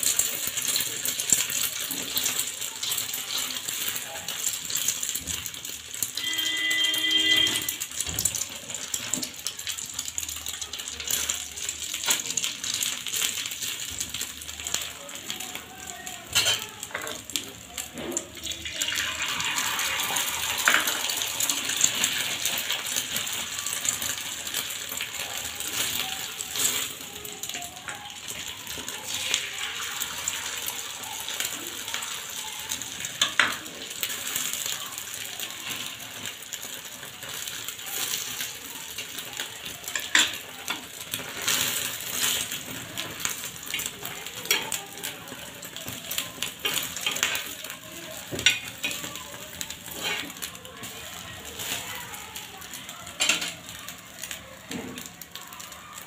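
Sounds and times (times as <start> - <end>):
egg and bread sizzling on griddle: 0.0 - 56.0
oil popping and crackling: 0.0 - 56.0.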